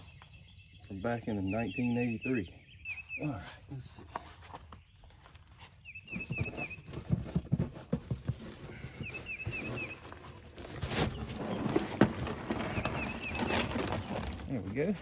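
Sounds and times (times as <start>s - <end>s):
bird chirping: 0.0s - 7.6s, 8.5s - 14.3s.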